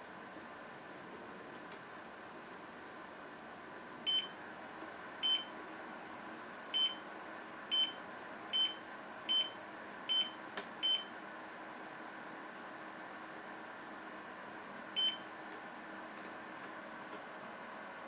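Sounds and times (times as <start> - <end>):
dehumidifier humming: 0.0 - 18.0.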